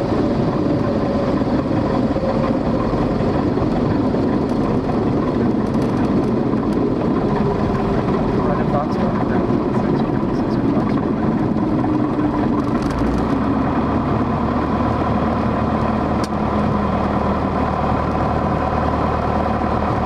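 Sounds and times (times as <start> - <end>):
light airplane engine idling: 0.0 - 20.0.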